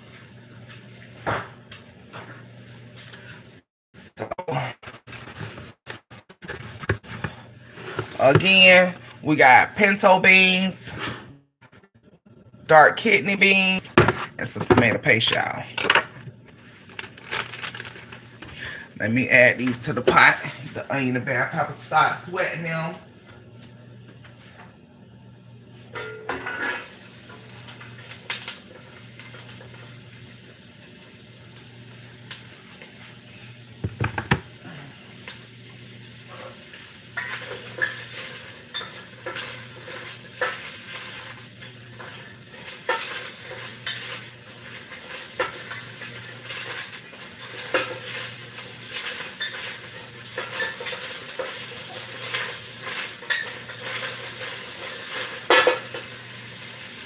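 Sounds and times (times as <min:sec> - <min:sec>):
onion and pepper sizzling in pot: 0:04.2 - 0:23.0, 0:25.7 - 0:57.0.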